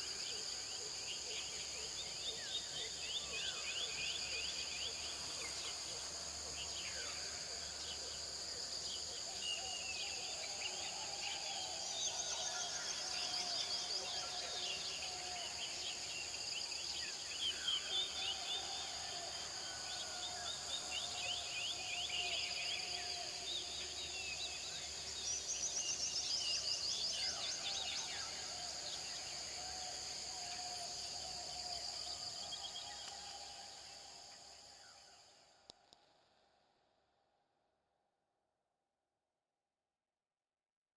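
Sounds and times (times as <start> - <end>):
insects droning: 0.0 - 36.1.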